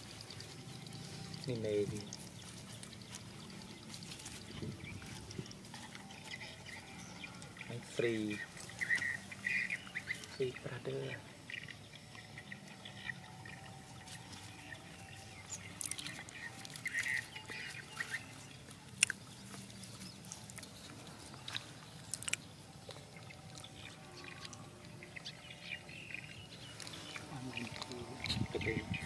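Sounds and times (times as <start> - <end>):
dogs chewing: 0.0 - 29.0.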